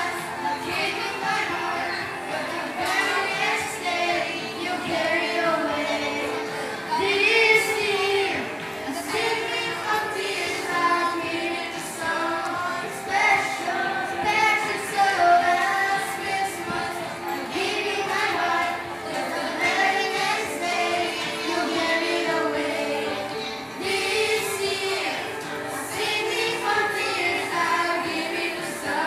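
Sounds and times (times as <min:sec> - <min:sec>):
backing music: 0:00.0 - 0:29.0
children singing: 0:00.0 - 0:29.0.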